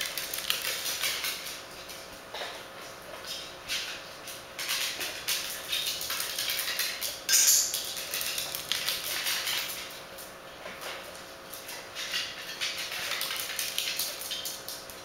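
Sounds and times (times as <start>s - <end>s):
dog claws clicking on tiles: 0.0s - 2.6s, 3.2s - 15.0s.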